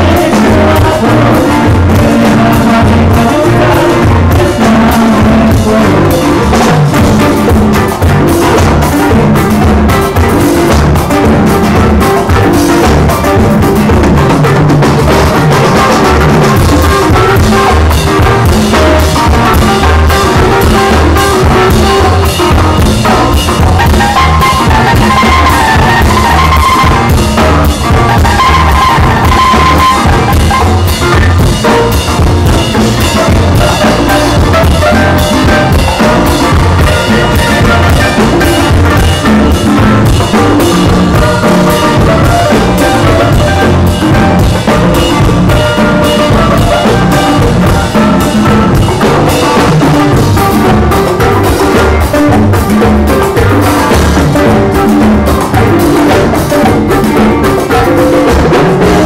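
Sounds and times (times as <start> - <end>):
acoustic guitars: 0.0 - 59.0
drum kit beat: 0.0 - 59.0.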